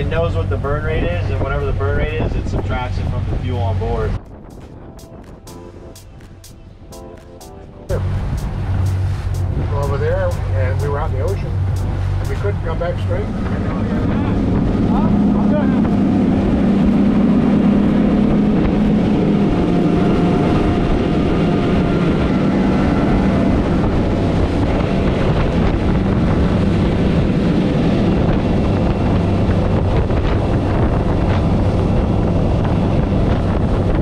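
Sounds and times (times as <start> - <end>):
outboard engines droning: 0.0 - 5.0, 7.7 - 34.0
churning wake rushing: 0.0 - 34.0
wind on microphone: 0.0 - 34.0.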